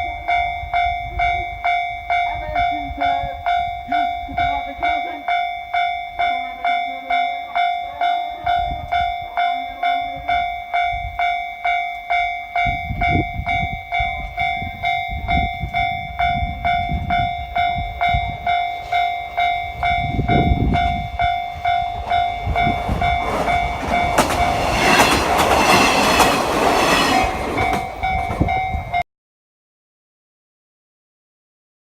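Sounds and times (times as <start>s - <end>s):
diesel train passing: 0.0s - 29.0s
level-crossing alarm bell: 0.0s - 29.0s
train wheel noise: 0.0s - 29.0s.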